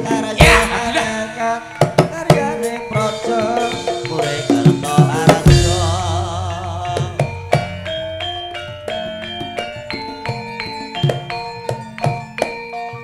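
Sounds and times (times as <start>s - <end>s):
ringing metallophone notes: 0.0s - 13.0s
wavering melody line: 0.0s - 13.0s.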